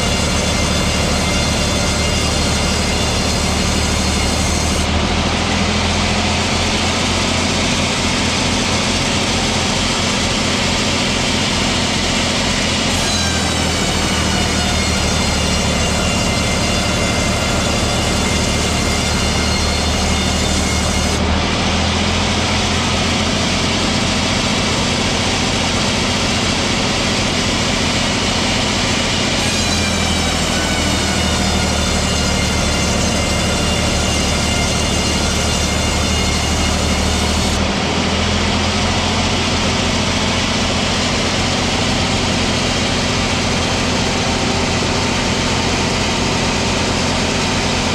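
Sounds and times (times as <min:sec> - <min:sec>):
sawmill machinery humming and whining: 0:00.0 - 0:47.9.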